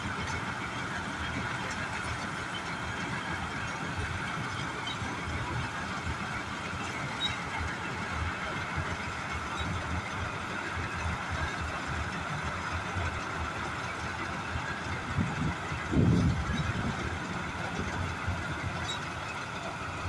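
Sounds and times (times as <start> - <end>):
diesel engine under load: 0.0 - 20.0
harvesting machinery: 0.0 - 20.0.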